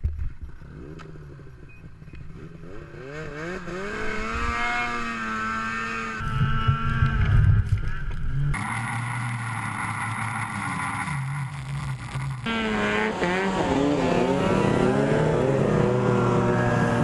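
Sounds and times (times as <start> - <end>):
snowmobile engines under load: 0.0 - 17.0.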